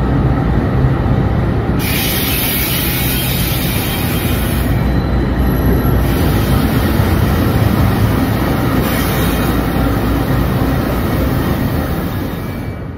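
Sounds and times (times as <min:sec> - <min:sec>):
diesel locomotive passing: 0:00.0 - 0:12.9.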